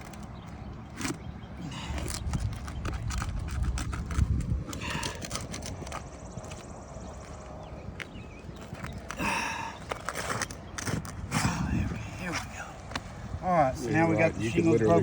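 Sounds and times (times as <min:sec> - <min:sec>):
shingles clicking and scraping: 0:00.0 - 0:13.1.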